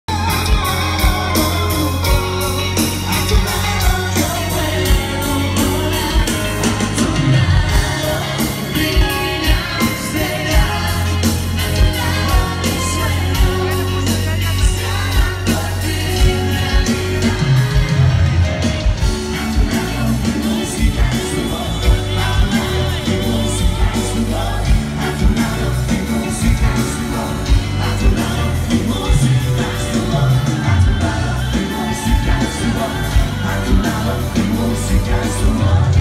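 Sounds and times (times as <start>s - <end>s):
live dance band playing: 0.0s - 36.0s
voices singing: 0.1s - 36.0s.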